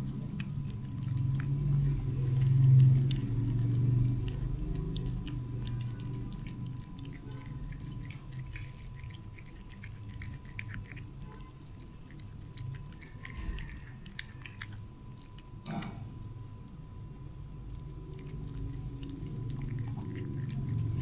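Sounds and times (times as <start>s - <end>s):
cat chewing food: 0.0s - 21.0s.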